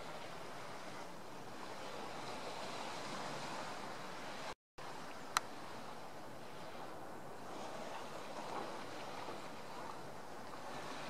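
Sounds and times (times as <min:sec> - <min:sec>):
distant sea surf: 0:00.0 - 0:11.0
wind: 0:00.0 - 0:11.0.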